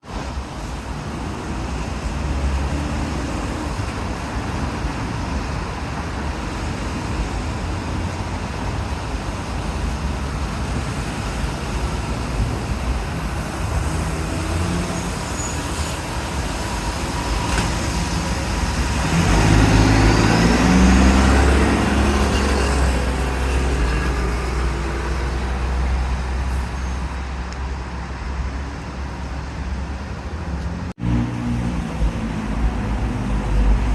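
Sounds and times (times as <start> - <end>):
city street traffic: 0.0 - 33.9
large vehicle engine rumble: 0.1 - 33.9.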